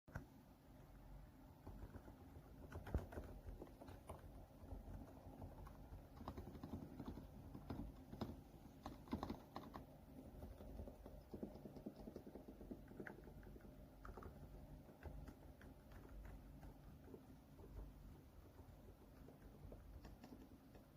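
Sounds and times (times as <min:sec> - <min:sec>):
soft mechanical keyboard typing: 0:00.1 - 0:20.9.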